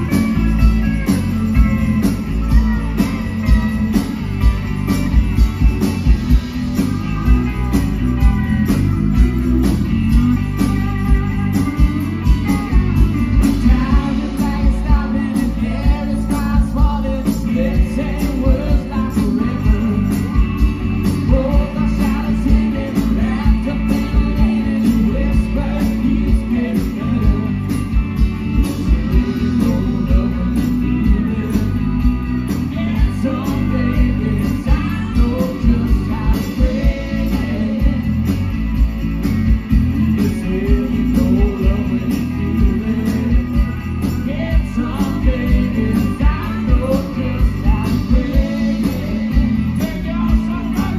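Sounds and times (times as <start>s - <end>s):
live band playing: 0.0s - 50.9s.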